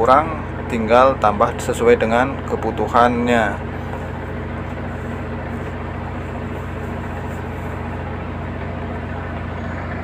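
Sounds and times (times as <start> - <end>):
diesel generator running: 0.0 - 10.0.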